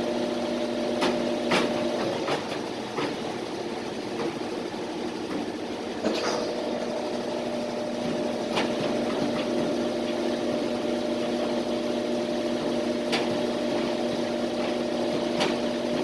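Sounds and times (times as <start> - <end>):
washing machine spin cycle hum: 0.0 - 16.0.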